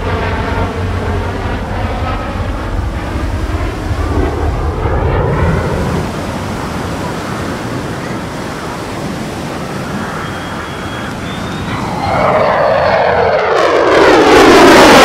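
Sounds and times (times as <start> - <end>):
fighter jet roaring: 0.0 - 15.0.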